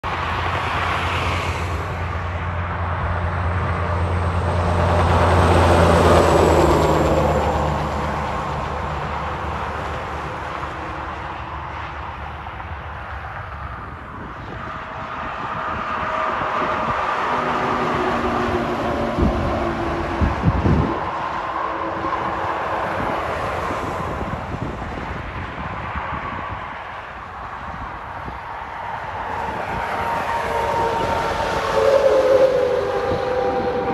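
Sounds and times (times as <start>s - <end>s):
low diesel drone: 0.0s - 25.2s, 27.1s - 33.9s
highway traffic passing: 0.0s - 33.9s
semi truck approaching: 0.0s - 33.9s.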